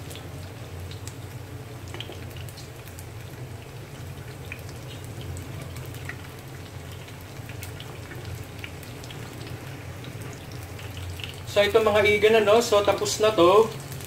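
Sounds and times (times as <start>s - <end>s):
oil crackling and popping: 0.0s - 14.0s.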